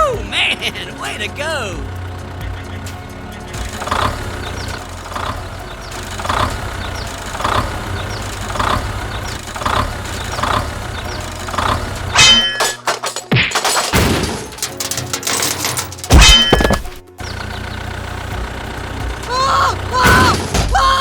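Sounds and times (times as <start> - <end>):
mini tractor engine drone: 0.0 - 13.1, 13.7 - 21.0.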